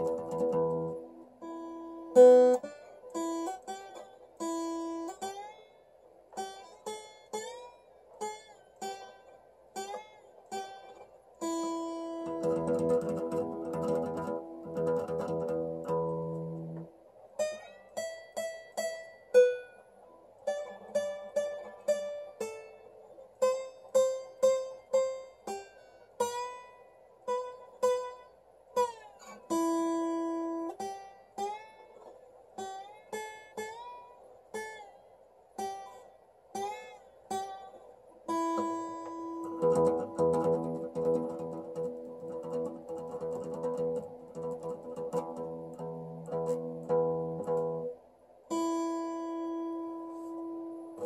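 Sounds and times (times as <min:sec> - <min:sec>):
slide acoustic guitar: 0:00.0 - 0:51.0.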